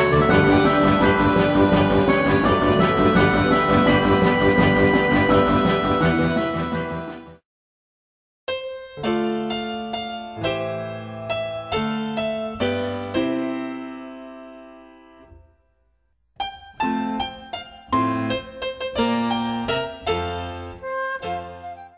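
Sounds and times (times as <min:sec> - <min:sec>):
piano music: 0:00.0 - 0:07.4, 0:08.5 - 0:15.4, 0:16.4 - 0:21.9.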